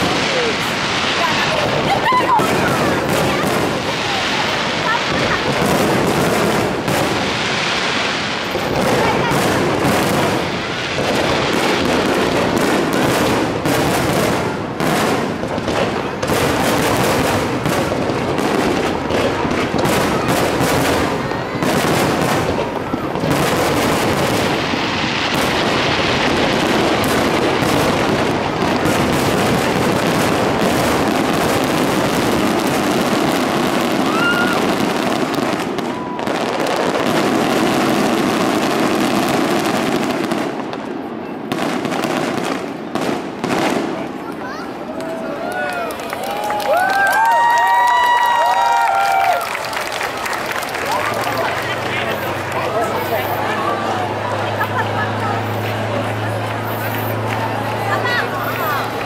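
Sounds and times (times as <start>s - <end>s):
firework bursts and crackling: 0.0s - 59.0s.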